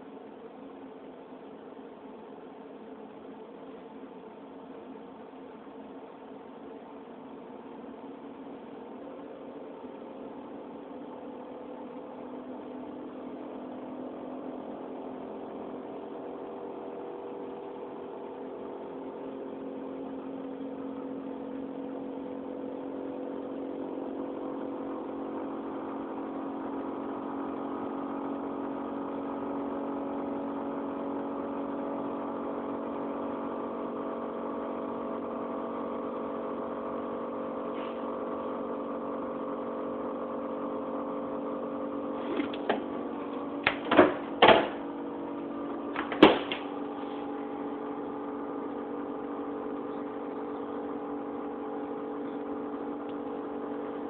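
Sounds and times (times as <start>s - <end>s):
refrigerator humming: 0.0s - 54.0s.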